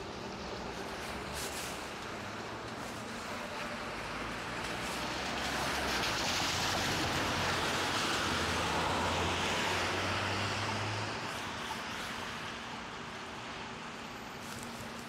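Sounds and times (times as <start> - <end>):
tyres hissing on wet road: 0.0 - 15.0.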